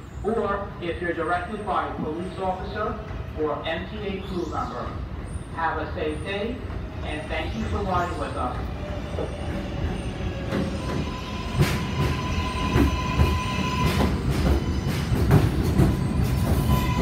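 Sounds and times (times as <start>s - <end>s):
train rumbling into station: 0.0s - 17.0s.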